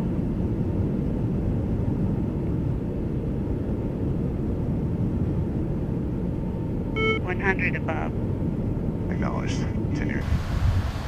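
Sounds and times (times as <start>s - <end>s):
aircraft engine and airflow noise: 0.0s - 11.0s.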